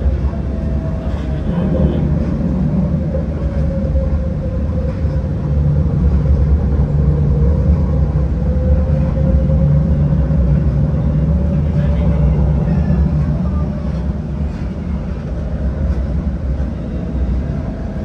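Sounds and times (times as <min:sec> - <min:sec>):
steady whine: 0:00.0 - 0:18.0
tram wheels rumbling: 0:00.0 - 0:18.0.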